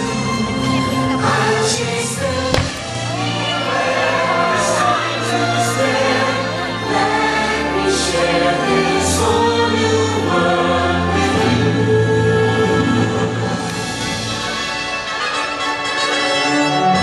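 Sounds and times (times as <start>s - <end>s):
choir singing long notes: 0.0s - 14.8s.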